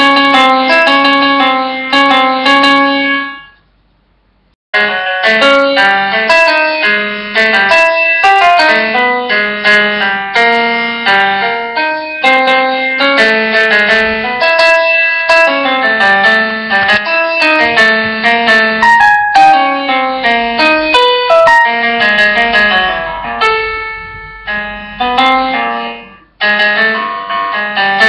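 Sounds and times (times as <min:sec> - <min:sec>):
keyboard melody with chords: 0:00.0 - 0:03.6, 0:04.8 - 0:28.0.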